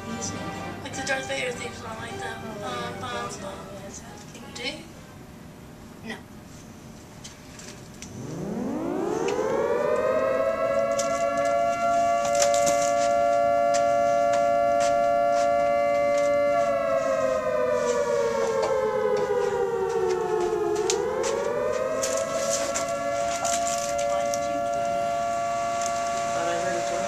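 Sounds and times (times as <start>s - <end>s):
wailing siren: 0.0s - 4.0s, 8.0s - 27.0s.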